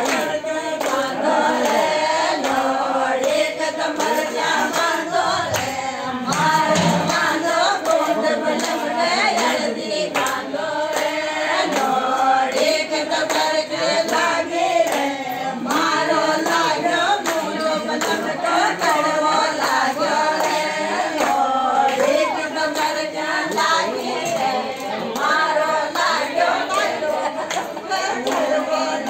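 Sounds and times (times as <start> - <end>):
women singing folk song: 0.0 - 29.0.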